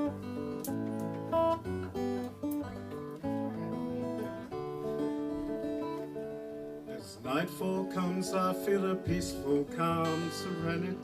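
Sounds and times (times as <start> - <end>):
acoustic guitar picked notes: 0.0 - 11.0.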